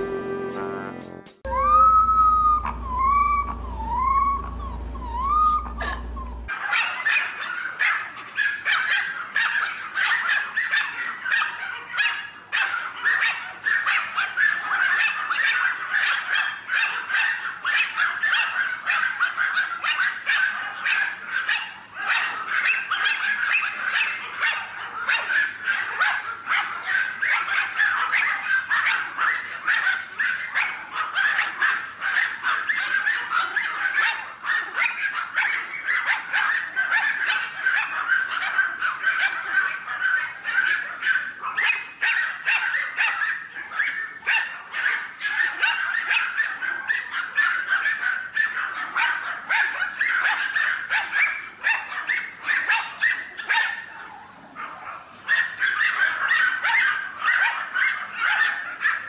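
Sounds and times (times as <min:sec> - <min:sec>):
animal yipping calls: 0:01.5 - 0:59.0.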